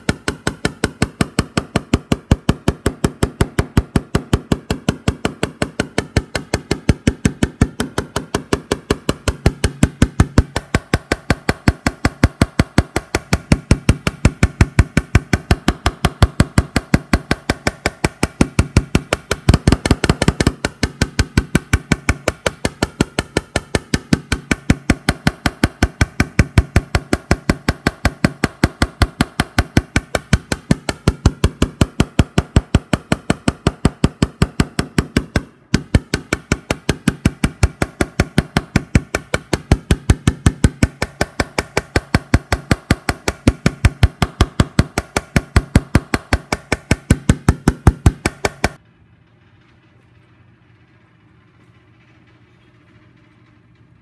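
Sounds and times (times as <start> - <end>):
hammer tapping on metal: 0.0 - 48.8.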